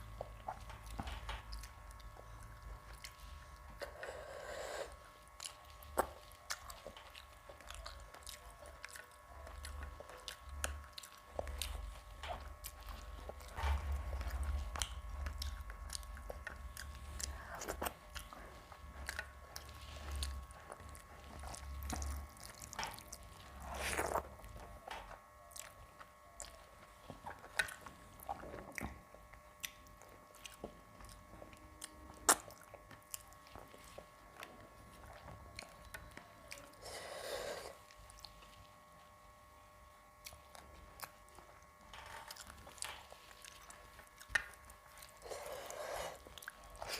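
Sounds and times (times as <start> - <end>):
person chewing: 0.0 - 38.7, 40.2 - 46.9.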